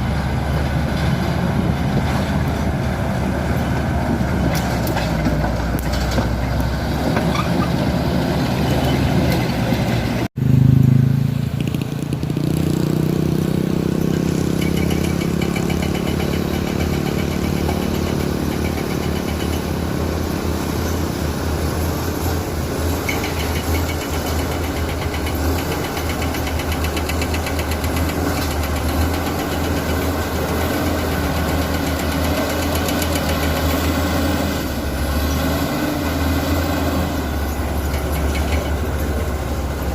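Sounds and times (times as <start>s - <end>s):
bulldozer diesel engine running: 0.0s - 10.3s, 11.6s - 39.9s.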